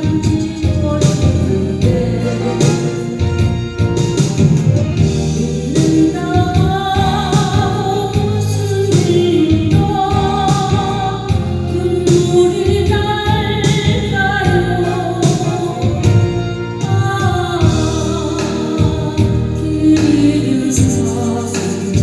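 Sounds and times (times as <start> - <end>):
woman singing a slow ballad: 0.0 - 4.0, 5.0 - 22.0
keyboard backing track: 0.0 - 22.0.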